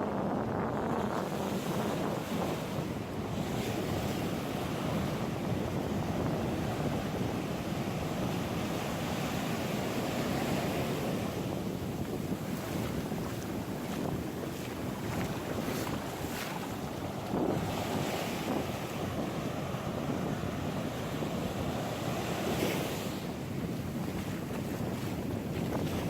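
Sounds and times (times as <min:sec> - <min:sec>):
wind buffeting microphone: 0:00.0 - 0:26.0
ocean surf on shore: 0:00.1 - 0:26.0.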